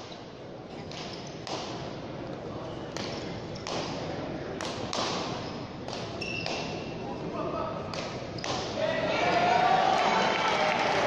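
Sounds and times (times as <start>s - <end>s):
murmur of spectators: 0.0s - 11.0s.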